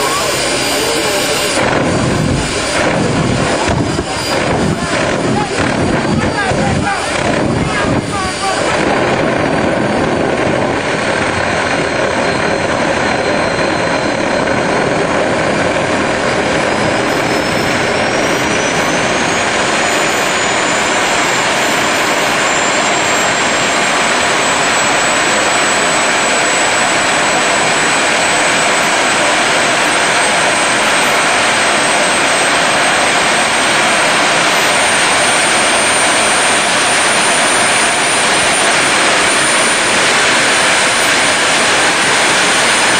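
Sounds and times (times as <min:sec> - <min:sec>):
jet engine roar with turbine whine: 0:00.0 - 0:42.9.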